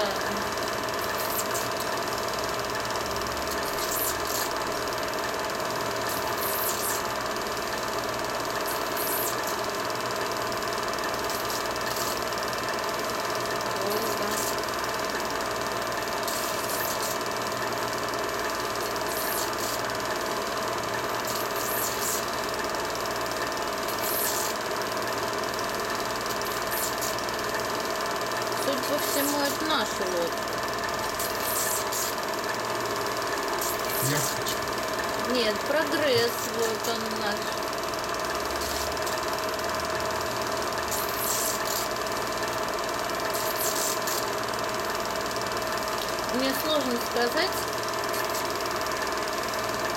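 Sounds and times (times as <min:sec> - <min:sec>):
film projector whirring and rattling: 0:00.0 - 0:49.9.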